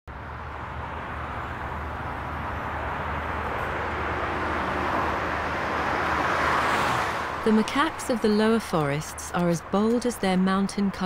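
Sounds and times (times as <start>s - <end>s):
passing cars: 0.1s - 11.0s.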